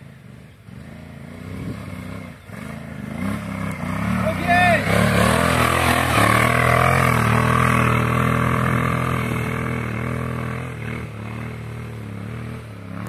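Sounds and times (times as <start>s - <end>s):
motorcycle riding through sand: 0.0s - 13.0s.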